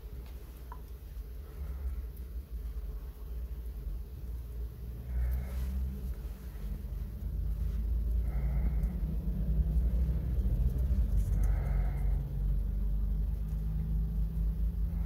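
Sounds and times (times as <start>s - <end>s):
low motor rumble: 0.0s - 15.0s.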